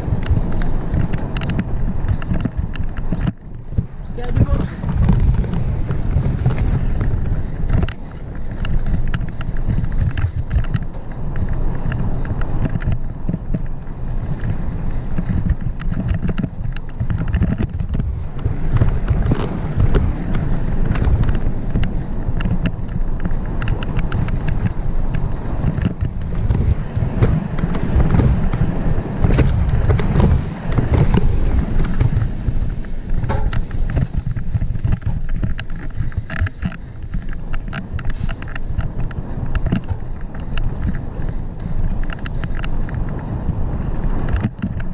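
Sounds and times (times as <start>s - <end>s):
bike clicks and rattles: 0.0s - 44.9s
wind buffeting microphone: 0.0s - 44.9s.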